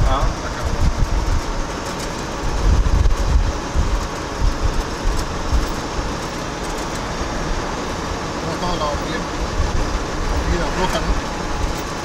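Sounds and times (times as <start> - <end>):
pickup truck driving interior: 0.0 - 12.0.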